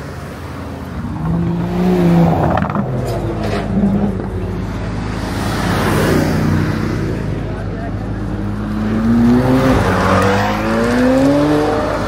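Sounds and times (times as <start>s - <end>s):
cars driving slowly past: 0.0s - 12.0s
sports car engine approaching: 0.2s - 12.0s.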